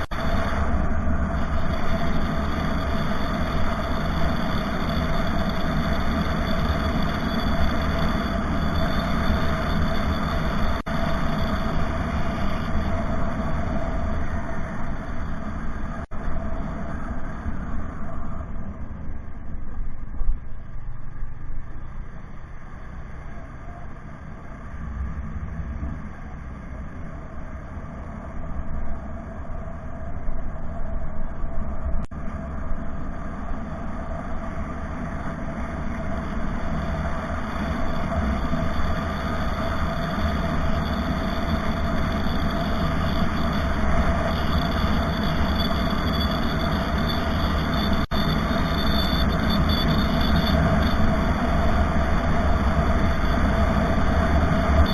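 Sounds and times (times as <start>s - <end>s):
vehicle engine and road rumble: 0.0s - 54.9s.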